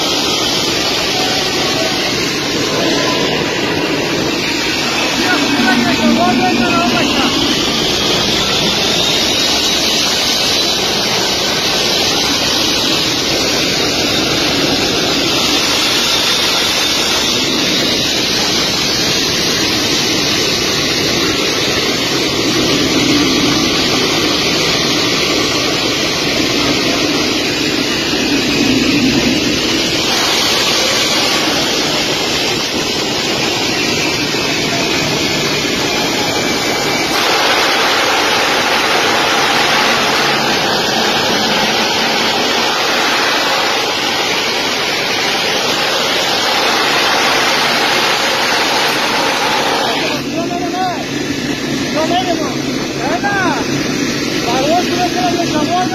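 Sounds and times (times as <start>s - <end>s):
jet engines running loud: 0.0s - 55.9s.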